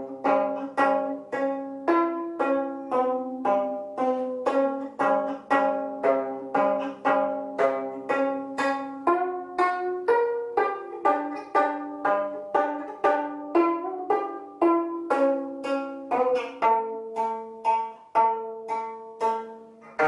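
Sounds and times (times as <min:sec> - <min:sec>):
plucked zither melody: 0:00.0 - 0:20.0.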